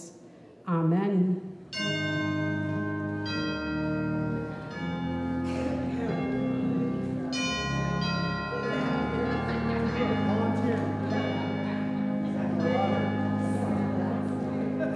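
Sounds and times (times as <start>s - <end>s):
church organ chords: 1.6s - 14.9s
congregation chatter: 1.6s - 14.9s.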